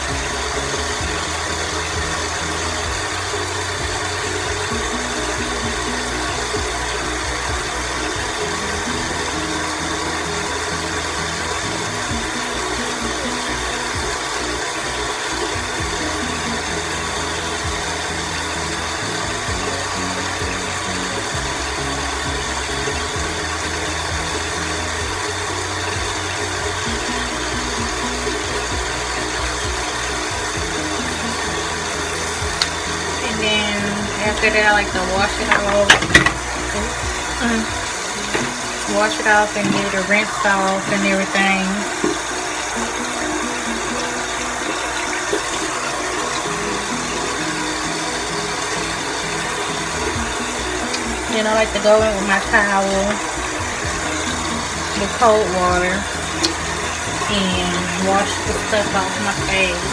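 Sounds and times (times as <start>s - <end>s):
cleansing brush buzzing: 0.0s - 59.9s.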